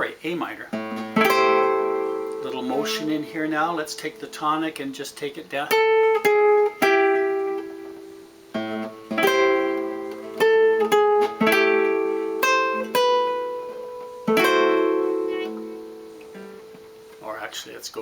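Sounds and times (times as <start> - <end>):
solo guitar chords: 0.7 - 17.6.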